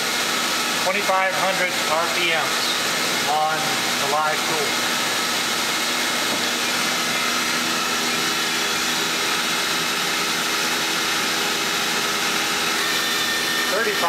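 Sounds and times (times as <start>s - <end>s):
lathe spindle hum with hiss: 0.0s - 14.0s.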